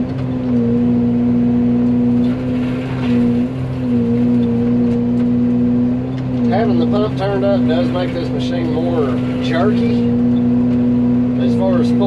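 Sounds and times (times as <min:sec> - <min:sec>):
diesel engine: 0:00.0 - 0:12.0
forestry mulcher drone: 0:00.0 - 0:12.0.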